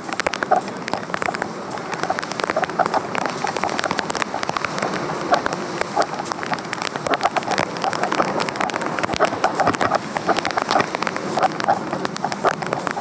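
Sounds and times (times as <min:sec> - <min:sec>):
rain falling: 0:00.0 - 0:13.0
raindrops hitting near microphone: 0:00.0 - 0:13.0.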